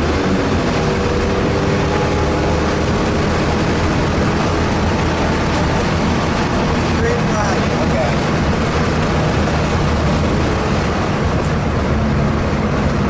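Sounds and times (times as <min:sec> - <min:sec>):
car engine running at speed: 0:00.0 - 0:13.0
road and wind noise: 0:00.0 - 0:13.0.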